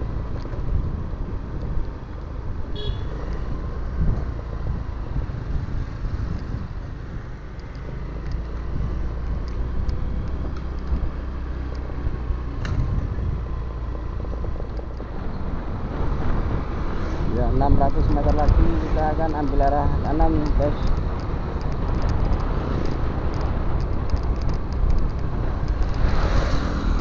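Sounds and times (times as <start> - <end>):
wind and road noise: 0.0 - 27.0.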